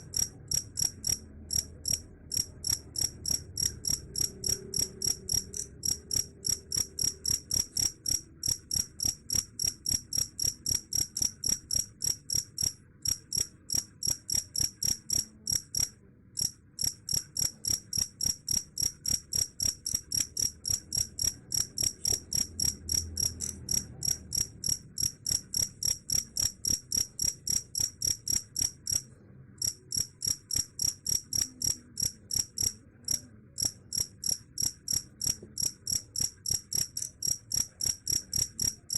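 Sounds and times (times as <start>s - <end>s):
cricket chirping: 0.0s - 29.0s, 29.6s - 38.9s.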